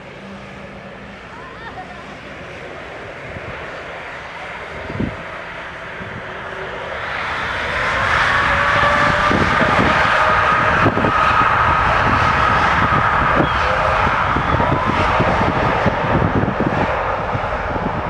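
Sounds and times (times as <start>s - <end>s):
aircraft engines whining: 0.0s - 18.0s.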